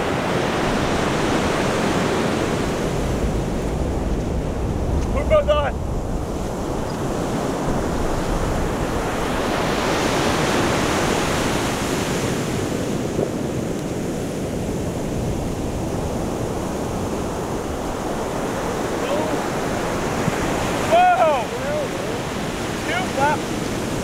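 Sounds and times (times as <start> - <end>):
surf washing onto beach: 0.0 - 24.0
wind on microphone: 0.0 - 24.0.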